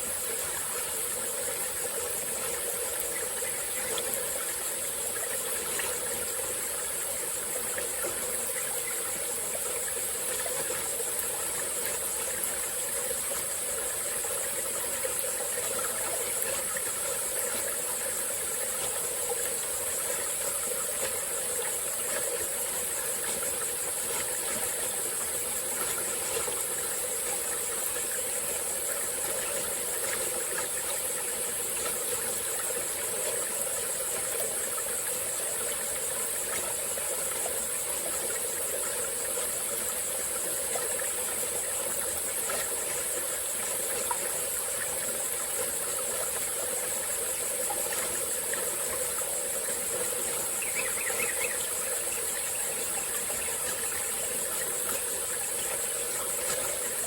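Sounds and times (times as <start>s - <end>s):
high-pitched insect drone: 0.0s - 57.0s
stream flowing: 0.0s - 57.0s.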